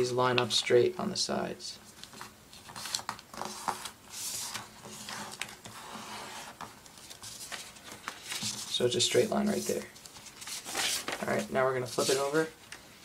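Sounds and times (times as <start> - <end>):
paper rustling as it is folded: 1.9 - 12.6.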